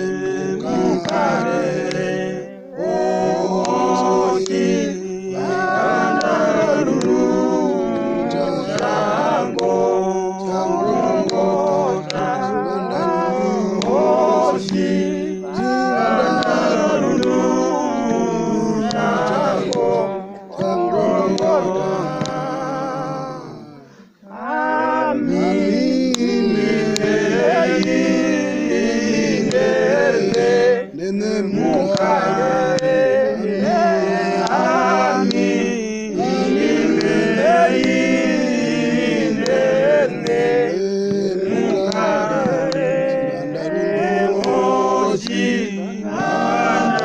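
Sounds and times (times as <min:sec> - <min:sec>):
group singing without instruments: 0:00.0 - 0:47.0.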